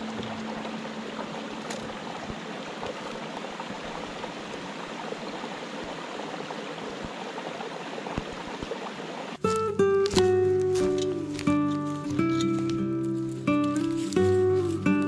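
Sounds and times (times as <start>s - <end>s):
creek water running over rocks: 0.0s - 15.0s.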